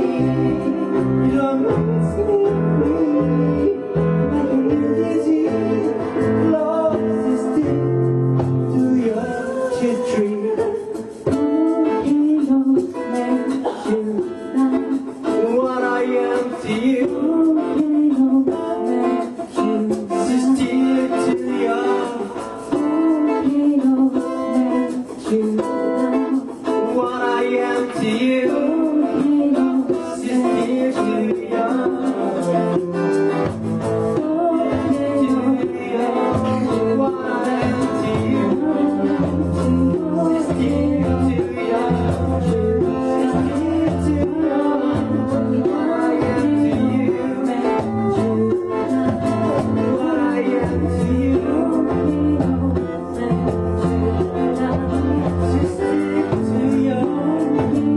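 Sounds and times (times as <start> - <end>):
song with guitar: 0.0 - 57.9.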